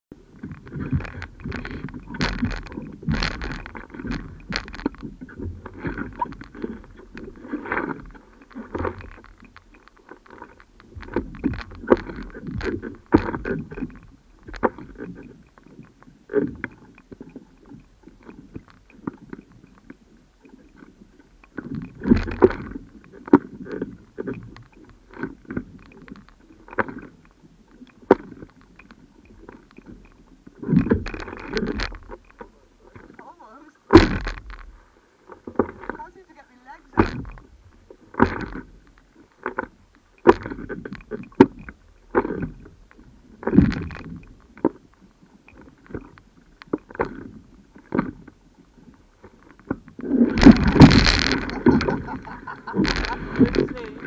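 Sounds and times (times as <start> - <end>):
water lapping against paddleboard: 0.2 - 54.0.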